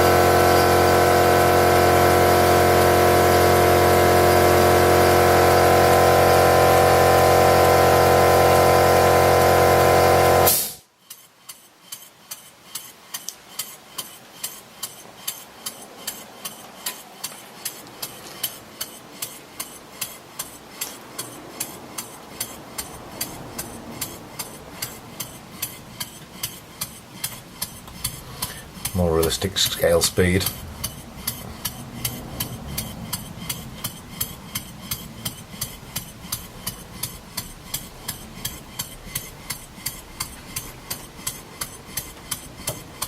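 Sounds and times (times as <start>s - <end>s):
air compressor running: 0.0s - 43.0s
model engine exhaust puffs: 0.0s - 43.0s.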